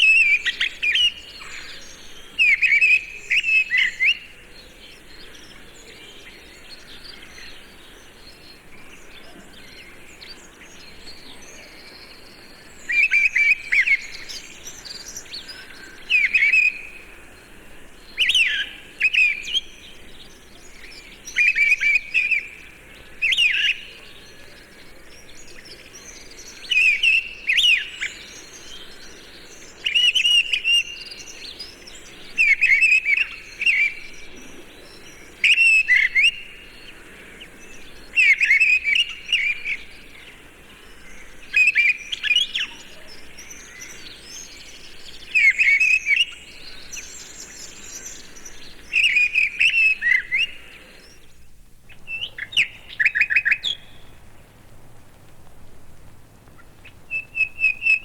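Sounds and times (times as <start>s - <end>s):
faint bird chirps: 0.0s - 54.3s, 56.4s - 58.0s.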